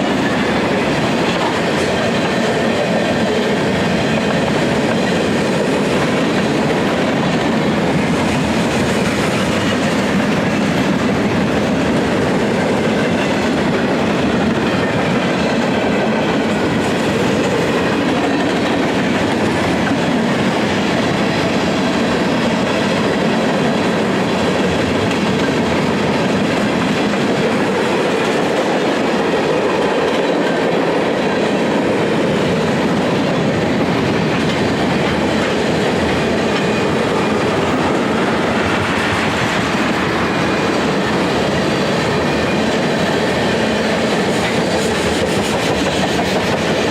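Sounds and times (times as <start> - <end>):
train wheels clacking on rails: 0.0 - 46.9.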